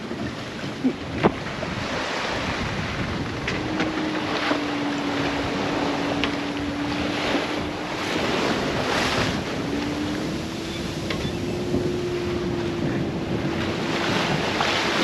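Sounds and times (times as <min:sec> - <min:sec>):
rushing water: 0:00.0 - 0:15.0
wind: 0:00.0 - 0:15.0
wind buffeting microphone: 0:00.0 - 0:15.0.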